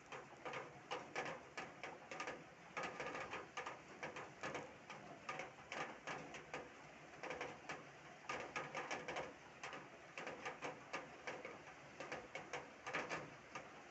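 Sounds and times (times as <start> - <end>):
raindrops tapping hard surface: 0.0 - 13.9.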